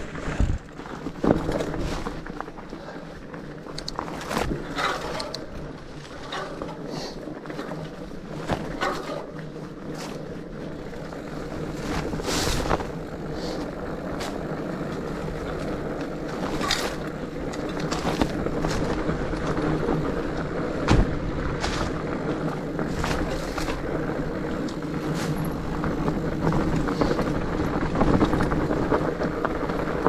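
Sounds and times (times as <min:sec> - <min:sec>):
bike rattling and knocking: 0:00.0 - 0:30.0
bike tyres rumbling on dirt: 0:00.0 - 0:30.0.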